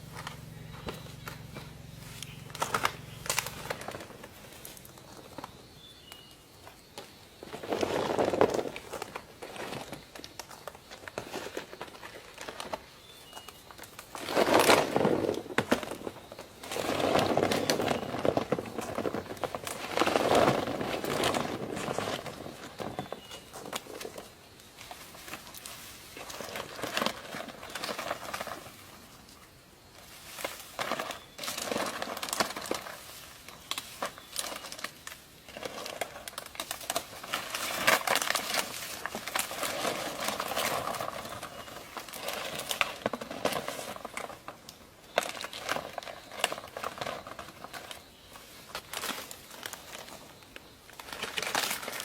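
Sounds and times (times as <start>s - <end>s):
rustling and crackling: 0.0s - 52.0s.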